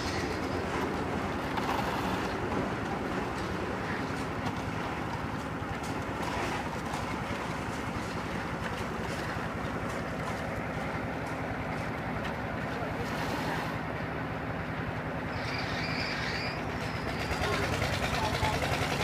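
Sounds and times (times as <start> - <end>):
construction machinery engine hum: 0.0 - 19.0.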